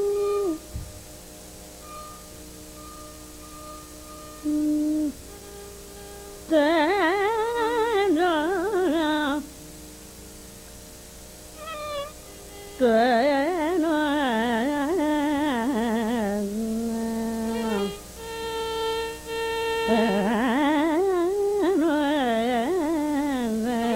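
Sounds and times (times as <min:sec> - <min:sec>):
faint steady drone: 0:00.0 - 0:23.9.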